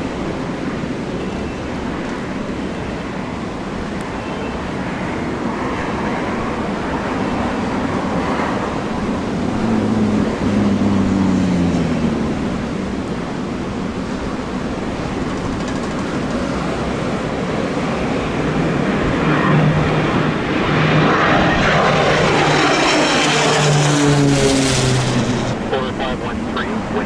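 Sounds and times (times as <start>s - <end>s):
aircraft engine drone: 0.0s - 16.2s, 17.0s - 27.0s.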